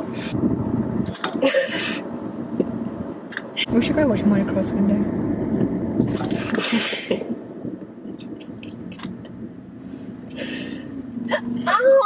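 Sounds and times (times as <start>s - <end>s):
car cabin hum: 0.0s - 12.0s.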